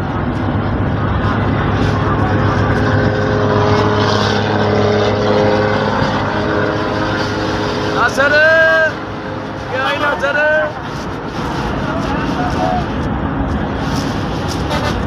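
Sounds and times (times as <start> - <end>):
bus engine droning: 0.0 - 15.0
road and wind noise: 0.0 - 15.0.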